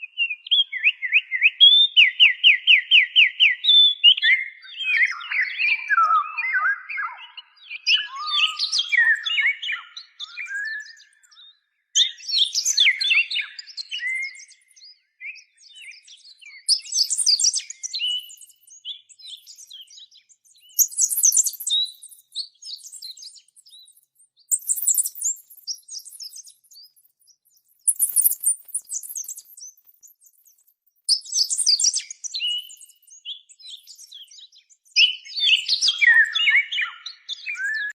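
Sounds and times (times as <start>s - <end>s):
songbirds singing: 0.0s - 37.9s.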